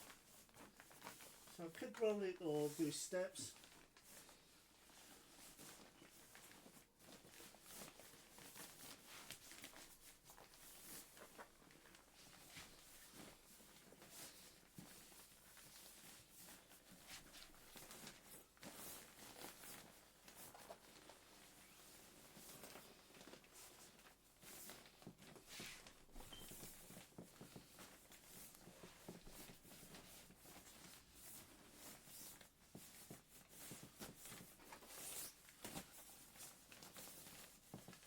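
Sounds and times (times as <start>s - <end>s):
fabric rustling and crinkling: 0.0s - 38.0s.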